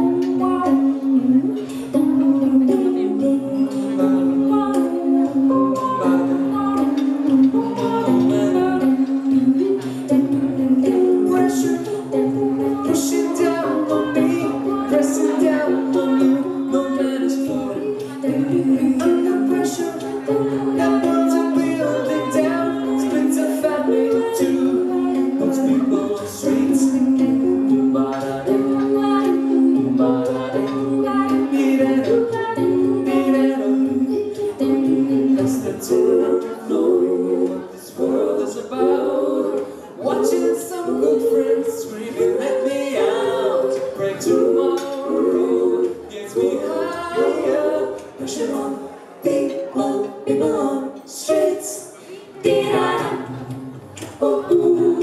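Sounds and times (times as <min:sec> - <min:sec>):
a cappella group singing: 0:00.0 - 0:55.0.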